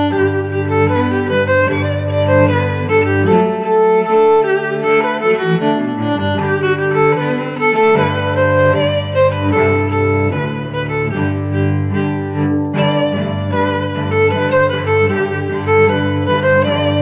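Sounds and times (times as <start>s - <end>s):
bowed strings melody: 0.0s - 17.0s
held low notes: 0.0s - 17.0s.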